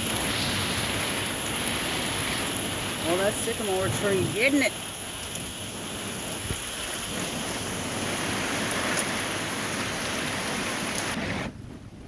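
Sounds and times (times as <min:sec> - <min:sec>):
heavy rain falling: 0:00.0 - 0:11.4.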